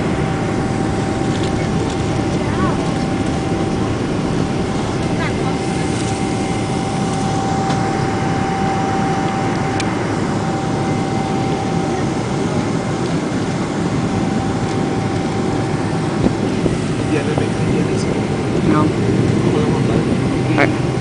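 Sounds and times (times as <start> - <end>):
engine and airflow rumble: 0.0 - 21.0
steady whine: 0.0 - 21.0.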